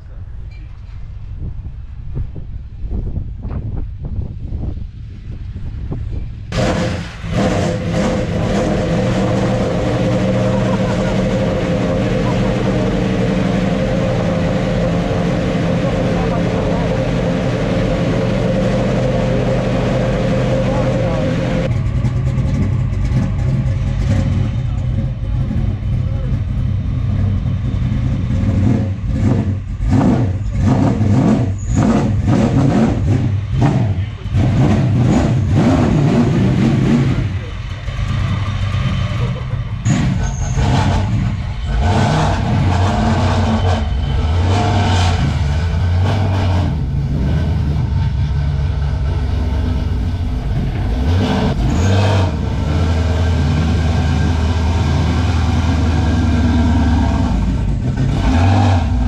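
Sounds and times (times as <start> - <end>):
car engine revving and idling: 4.5 - 59.0.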